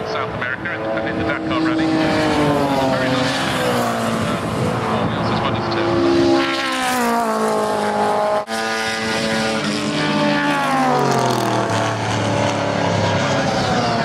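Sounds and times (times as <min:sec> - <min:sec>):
racing cars passing at speed: 0:00.0 - 0:14.0.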